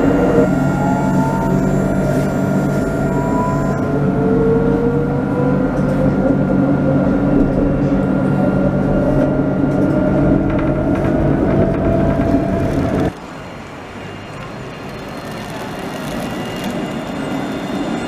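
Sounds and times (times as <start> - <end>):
tram motor whine: 0.0 - 18.0
tram rolling and motor hum: 0.0 - 18.0.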